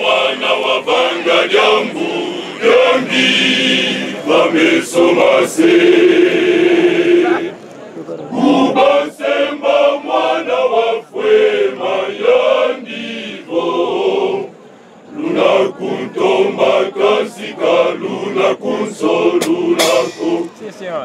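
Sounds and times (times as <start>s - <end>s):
male choir singing: 0.0s - 7.6s, 8.2s - 20.8s.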